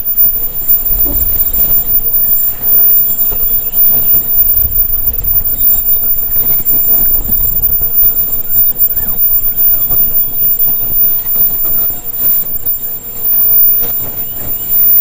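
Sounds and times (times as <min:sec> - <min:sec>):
machine rattle and clatter: 0:00.0 - 0:15.0.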